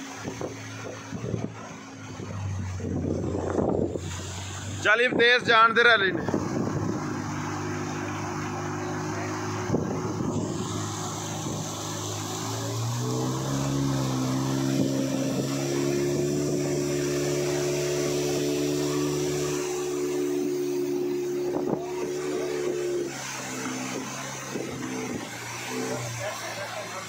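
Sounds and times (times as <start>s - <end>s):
motorboat engine: 0.0s - 27.0s
rushing water: 0.0s - 27.0s
wind: 0.0s - 27.0s.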